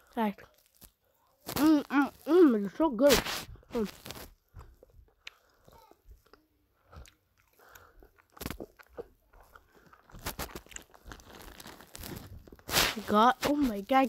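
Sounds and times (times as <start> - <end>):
chewing gummy candy: 0.0 - 2.8, 3.8 - 14.0.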